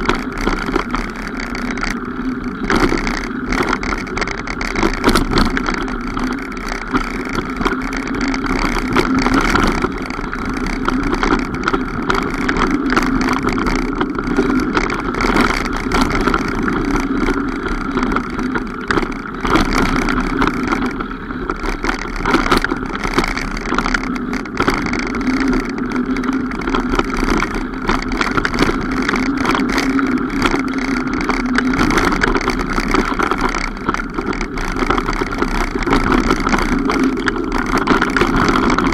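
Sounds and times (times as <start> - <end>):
mountain bike riding on trail: 0.0 - 38.9
small rattling clicks: 0.0 - 38.9.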